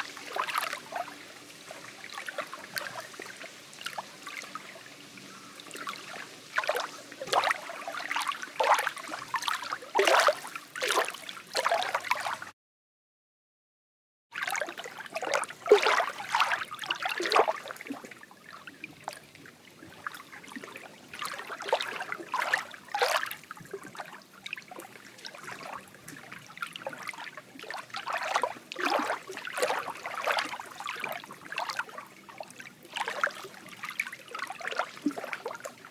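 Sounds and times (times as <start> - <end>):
water lapping against wooden dock: 0.0 - 12.5, 14.4 - 35.9.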